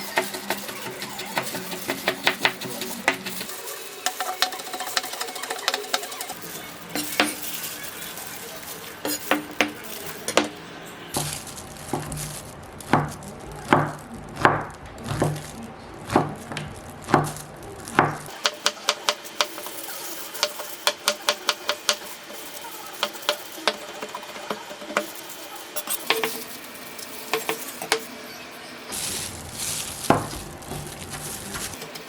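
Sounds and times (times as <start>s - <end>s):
utensil mixing in a bowl: 0.0s - 28.0s, 28.9s - 32.0s.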